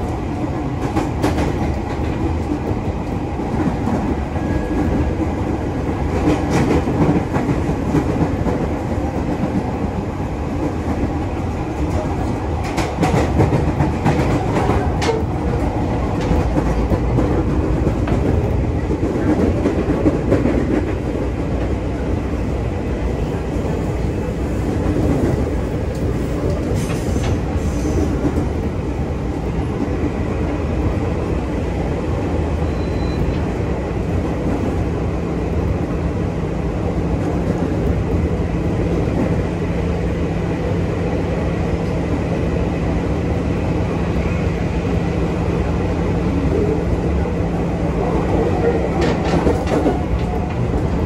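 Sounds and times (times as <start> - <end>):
electric train running rumble: 0.0 - 51.0.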